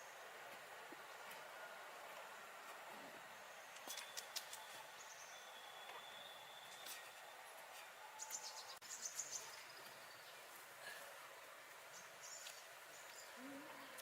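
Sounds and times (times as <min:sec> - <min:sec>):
soft steady hiss: 0:00.0 - 0:14.0.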